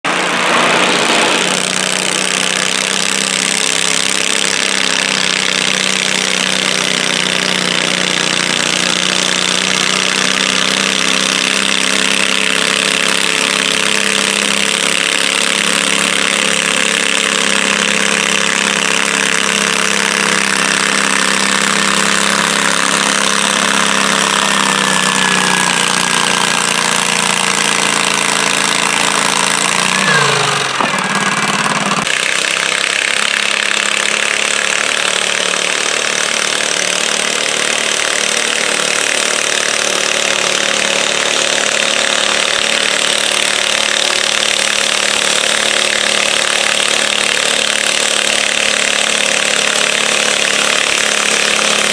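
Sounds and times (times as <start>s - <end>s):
garden tractor engine running: 0.0s - 51.9s.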